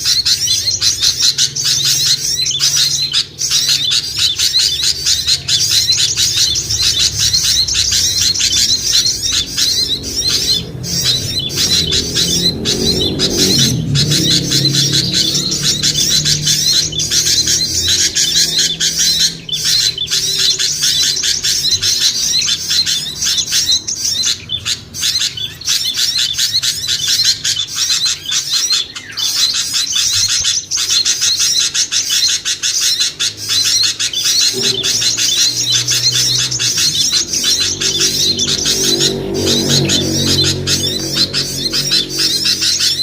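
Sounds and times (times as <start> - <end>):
songbirds chirping and trilling: 0.0 - 43.0.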